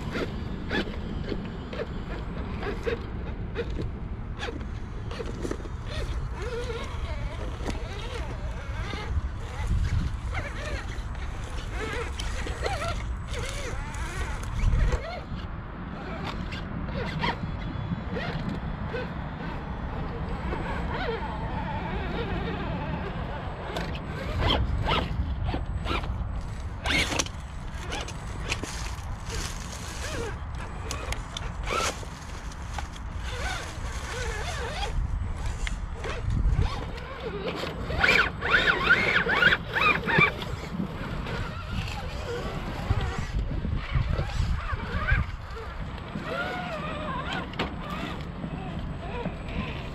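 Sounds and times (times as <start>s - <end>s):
electric motors whining: 0.0s - 49.9s
rc car drivetrain grinding: 0.0s - 49.9s
wind rumble on microphone: 0.0s - 49.9s.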